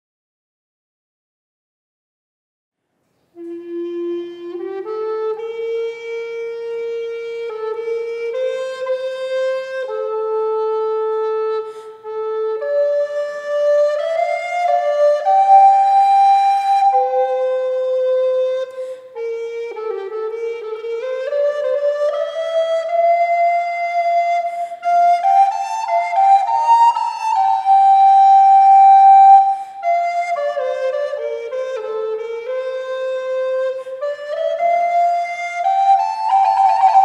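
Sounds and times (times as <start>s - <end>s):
solo flute melody: 3.3s - 37.0s.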